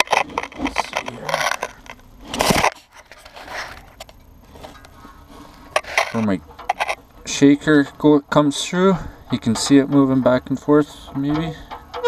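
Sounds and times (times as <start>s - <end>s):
metal grate crunching and scraping: 0.0s - 12.0s.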